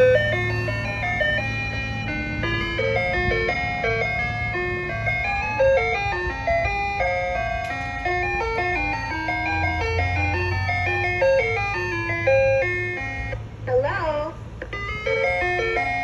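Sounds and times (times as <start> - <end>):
ice cream truck jingle: 0.0 - 16.0
low truck hum: 0.0 - 16.0.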